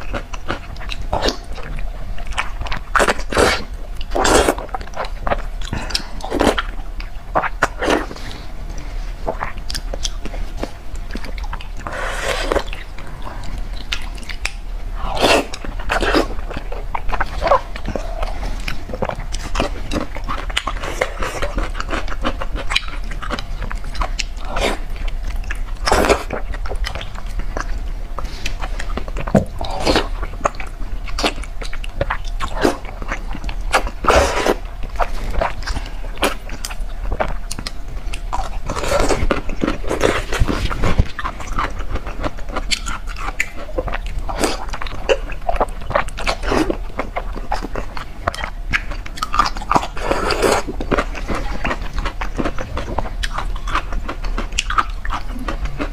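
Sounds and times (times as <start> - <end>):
wet chewing and lip-smacking: 0.0 - 55.9.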